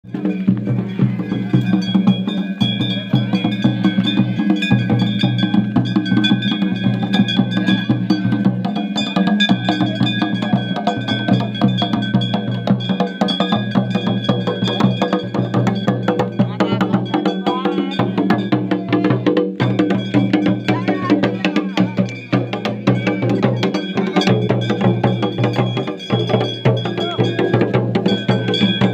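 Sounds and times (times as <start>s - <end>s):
drums beaten in fast rhythm: 0.0s - 28.9s
metal bells ringing: 0.1s - 28.9s.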